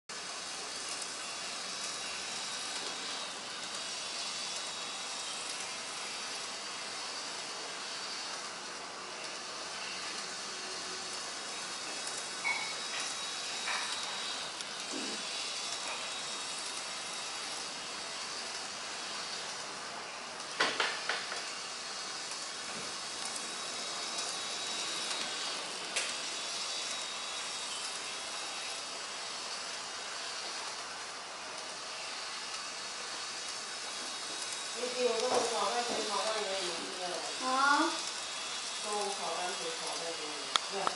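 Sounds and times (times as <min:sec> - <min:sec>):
model train running on track: 0:00.1 - 0:40.9.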